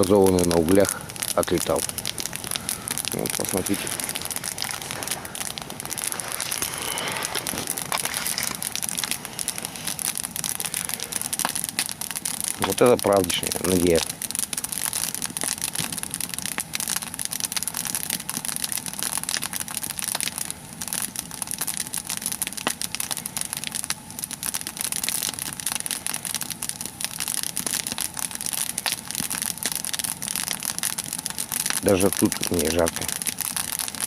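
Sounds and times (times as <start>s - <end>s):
log fire crackling and popping: 0.0s - 34.0s.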